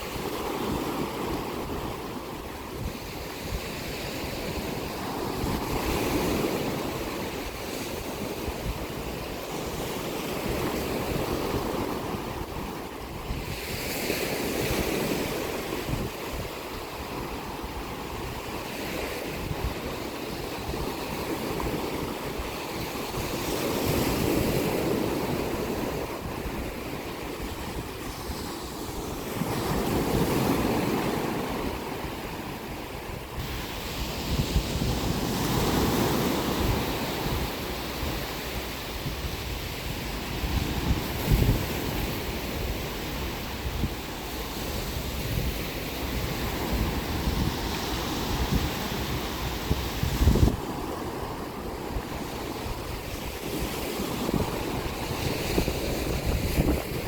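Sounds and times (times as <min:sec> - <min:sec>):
sea waves breaking on shore: 0:00.0 - 0:57.0
wind rumbling on microphone: 0:00.0 - 0:57.0.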